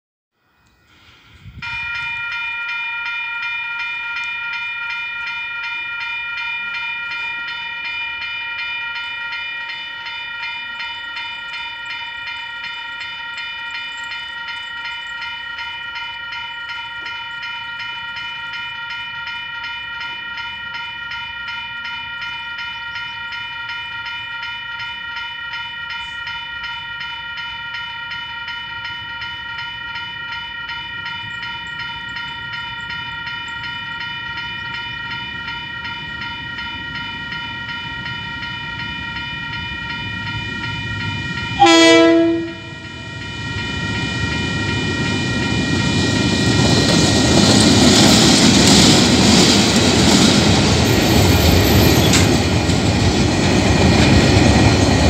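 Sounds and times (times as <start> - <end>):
level crossing warning bell: 1.0 - 55.0.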